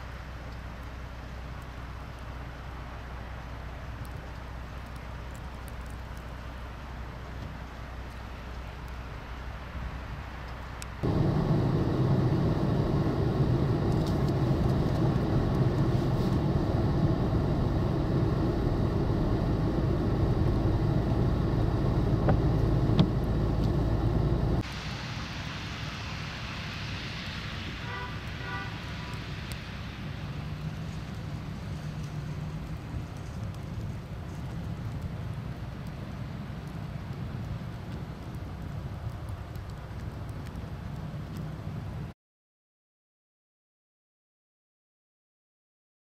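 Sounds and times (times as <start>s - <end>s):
traffic engine and tyre rumble: 0.0s - 42.2s.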